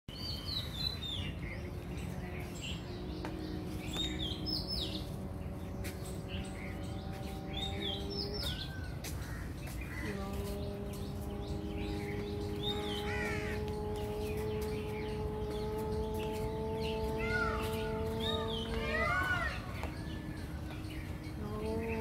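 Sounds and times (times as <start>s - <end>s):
outdoor background noise: 0.1s - 22.0s.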